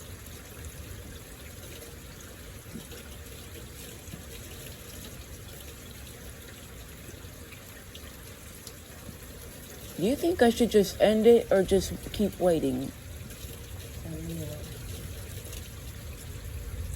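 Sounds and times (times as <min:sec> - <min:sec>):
faint drips: 0:00.0 - 0:16.9
steady rain: 0:00.0 - 0:16.9.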